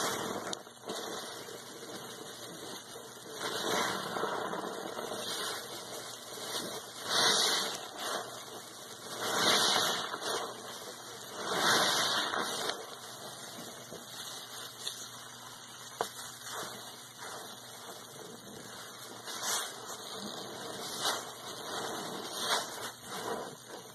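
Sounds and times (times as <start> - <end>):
wet sponge squeezing gush: 0.0 - 23.9.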